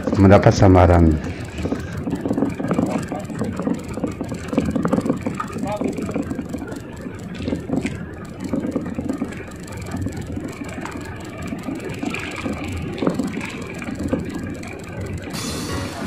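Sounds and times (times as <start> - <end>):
water against hull: 0.0 - 16.0
wind around boat: 0.0 - 16.0.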